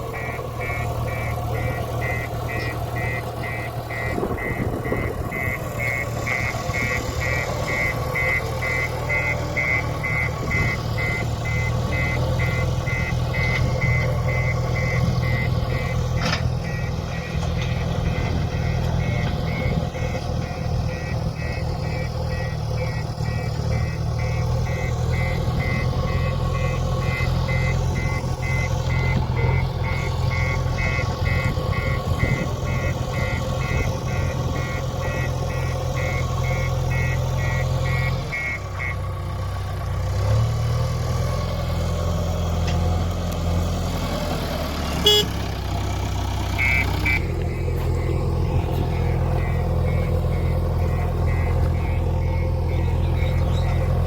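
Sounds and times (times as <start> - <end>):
diesel engine running: 0.0 - 54.0
high electronic beeper: 0.2 - 38.6, 46.6 - 53.9.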